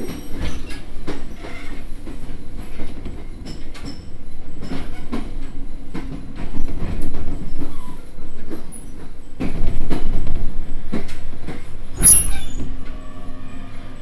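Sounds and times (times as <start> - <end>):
train wheels knocking on rails: 0.0 - 7.8, 8.4 - 12.9.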